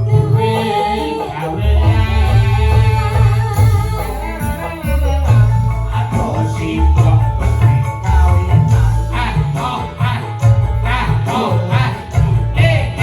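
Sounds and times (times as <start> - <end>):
live band music: 0.0 - 13.0
pulsing bass line: 0.0 - 13.0
wavering lead melody: 0.0 - 13.0.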